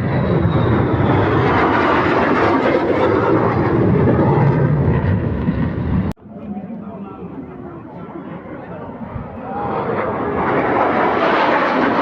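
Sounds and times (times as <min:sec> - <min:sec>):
fighter jet engine roar: 0:00.0 - 0:12.0.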